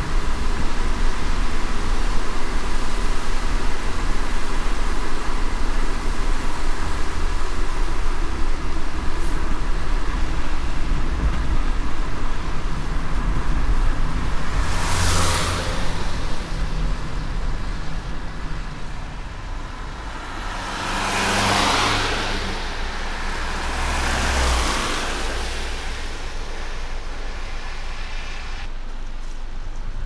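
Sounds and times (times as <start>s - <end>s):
car driving rumble: 0.0s - 30.0s
rain hiss: 0.0s - 30.0s
road noise: 0.0s - 30.0s.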